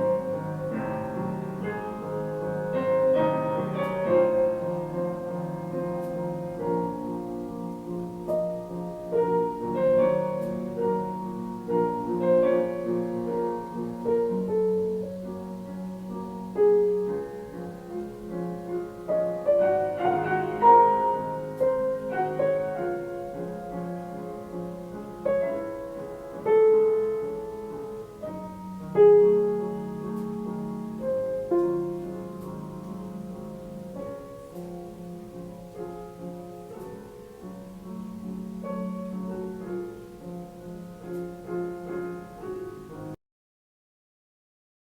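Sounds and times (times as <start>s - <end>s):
solo piano music: 0.0s - 43.2s.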